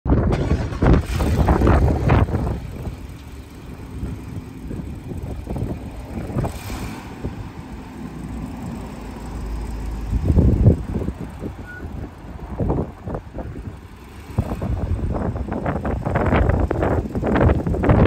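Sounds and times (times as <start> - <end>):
wind buffeting microphone: 0.1 - 7.6, 10.0 - 18.0.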